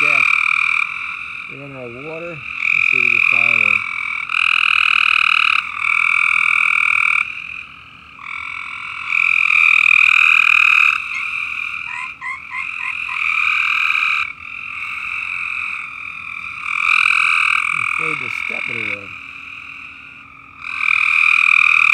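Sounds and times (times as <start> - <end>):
frogs trilling: 0.0 - 21.9
short frog chirps: 2.4 - 21.9.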